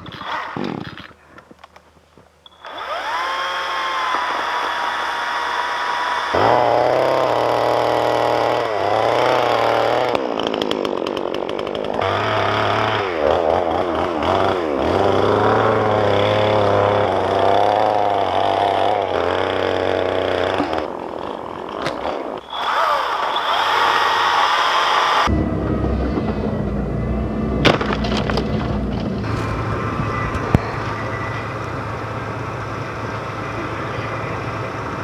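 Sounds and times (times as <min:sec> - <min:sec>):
chainsaw cutting wood: 0:00.0 - 0:26.6, 0:27.6 - 0:35.0.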